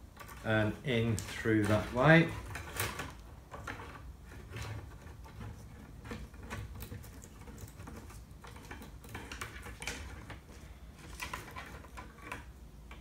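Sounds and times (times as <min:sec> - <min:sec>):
light clicks taps and rustles: 0:00.1 - 0:13.0.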